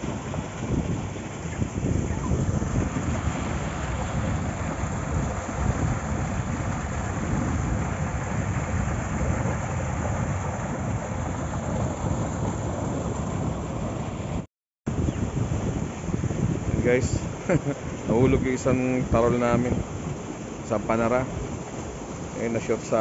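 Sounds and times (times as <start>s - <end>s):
water rushing through sluice gate: 0.0s - 14.4s, 15.7s - 23.0s
wind rumbling on microphone: 0.0s - 23.0s.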